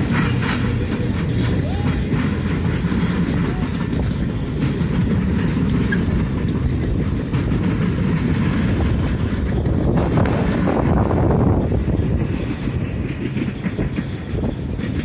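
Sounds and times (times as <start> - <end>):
steel wheels rolling on track: 0.0 - 15.0.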